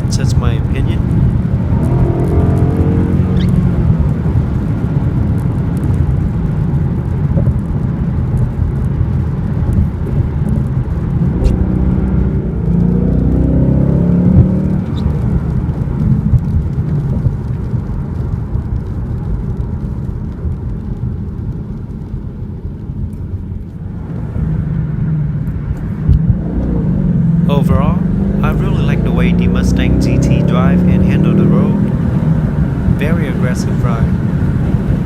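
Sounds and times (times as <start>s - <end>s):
car engine accelerating: 0.0s - 18.9s, 23.8s - 35.0s.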